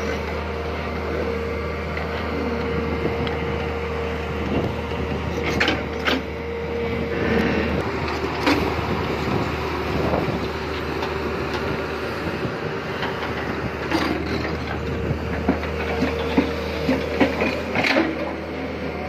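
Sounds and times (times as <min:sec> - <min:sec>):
excavator diesel engine running: 0:00.0 - 0:19.0
steady whine: 0:00.0 - 0:19.0.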